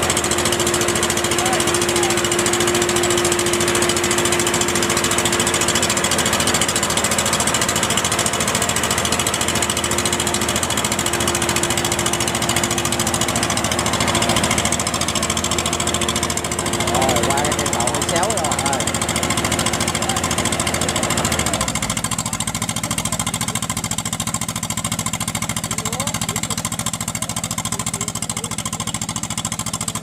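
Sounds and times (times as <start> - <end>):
combine harvester engine running: 0.0 - 30.0.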